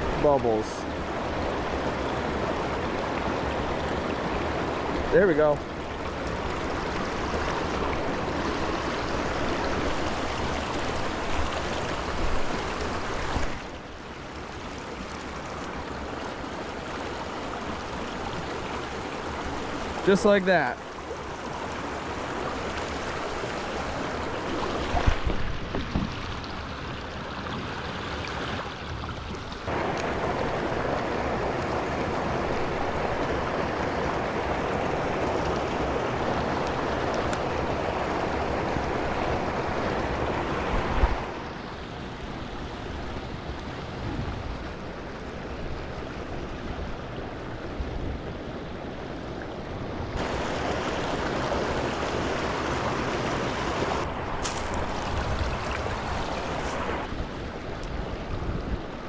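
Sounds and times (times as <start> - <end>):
brook water rushing: 0.0 - 59.0.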